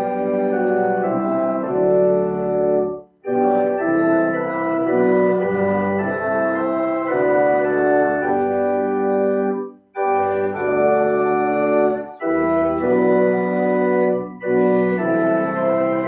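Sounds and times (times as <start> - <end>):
organ playing held chords: 0.0 - 16.0.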